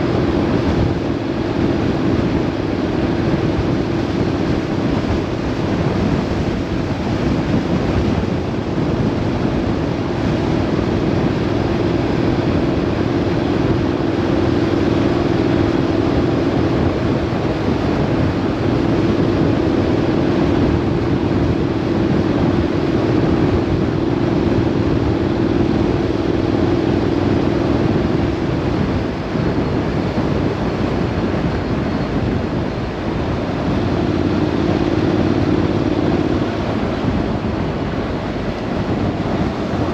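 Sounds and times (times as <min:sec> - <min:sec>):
vehicle engine drone: 0:00.0 - 0:39.9
wind and road noise: 0:00.0 - 0:39.9.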